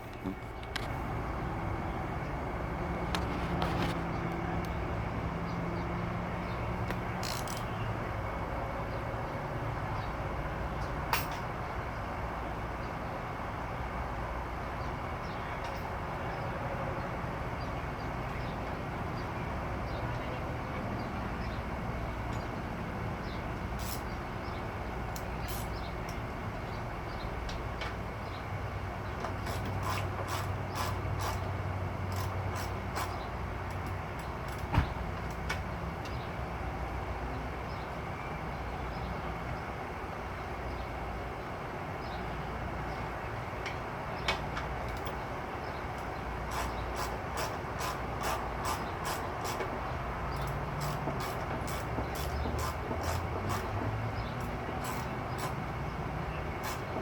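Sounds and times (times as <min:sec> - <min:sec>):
engine rumbling: 0:00.0 - 0:57.0.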